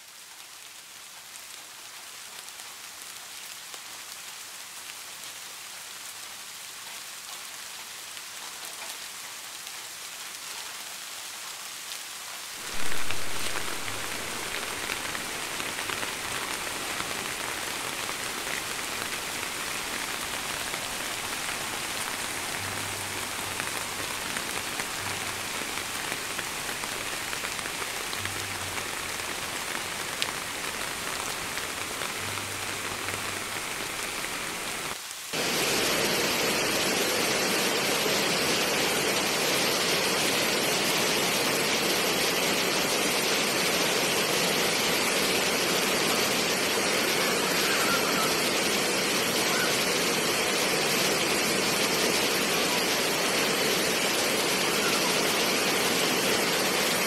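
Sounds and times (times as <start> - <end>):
rushing water: 0.0 - 57.0
steady rain hiss: 0.0 - 57.0.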